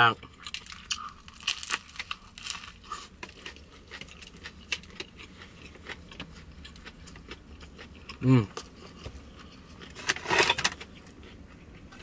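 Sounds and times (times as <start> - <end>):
bread crunching while chewing: 0.3 - 12.0.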